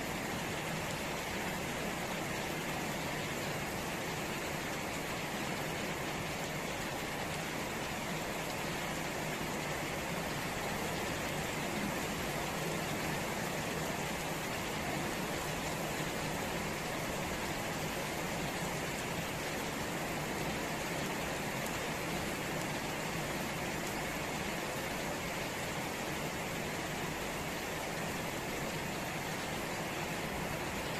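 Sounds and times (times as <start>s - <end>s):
rain falling on plants: 0.0s - 30.9s.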